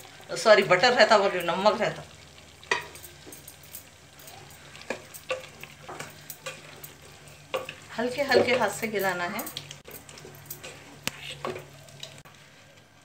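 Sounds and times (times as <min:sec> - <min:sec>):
curry sizzling: 0:00.0 - 0:13.0.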